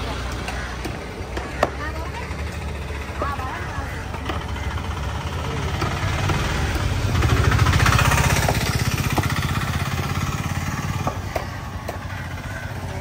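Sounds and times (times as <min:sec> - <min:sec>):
small vehicle engine passing: 0:00.0 - 0:13.0.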